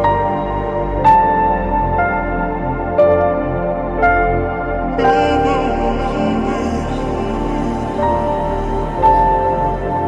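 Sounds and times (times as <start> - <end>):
ambient new-age music: 0.0 - 10.0.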